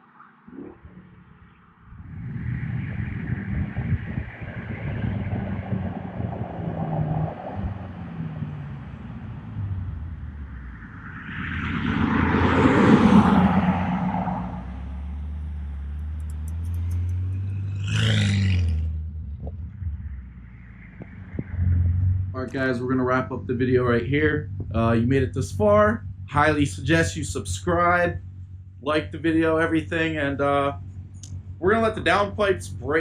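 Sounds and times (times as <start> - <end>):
car engine driving past: 0.0 - 33.0.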